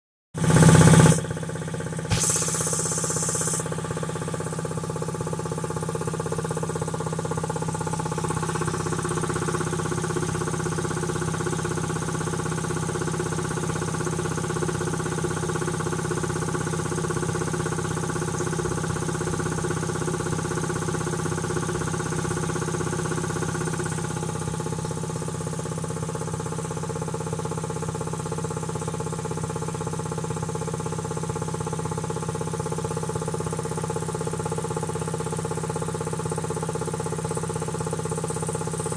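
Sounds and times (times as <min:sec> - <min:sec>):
air compressor pump running: 0:00.4 - 0:38.9.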